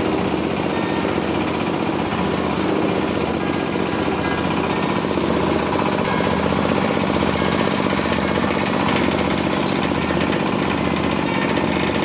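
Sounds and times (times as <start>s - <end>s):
chopper shredding with rapid clatter: 0.0s - 12.0s.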